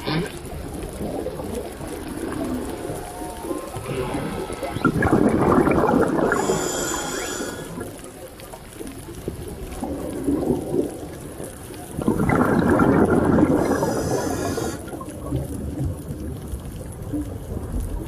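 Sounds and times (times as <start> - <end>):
underwater bubbling: 0.0 - 18.0
underwater water churning: 0.0 - 18.0.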